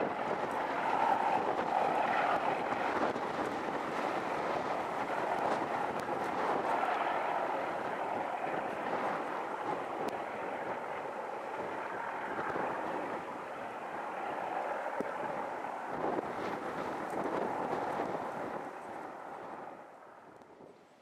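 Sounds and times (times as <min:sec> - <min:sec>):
distant diesel train rumble: 0:00.0 - 0:20.2.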